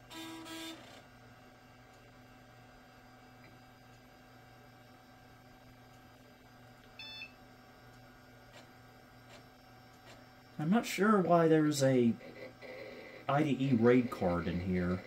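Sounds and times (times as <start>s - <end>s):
computer fans and hard drive hum: 0.0s - 15.0s.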